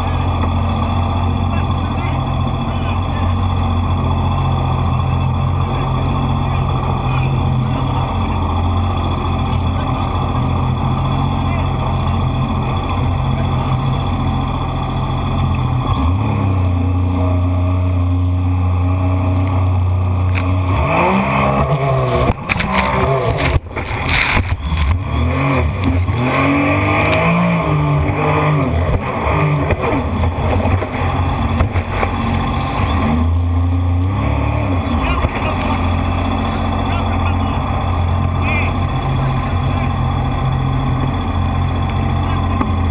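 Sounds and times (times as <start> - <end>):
jet ski engine revving: 0.0 - 42.9.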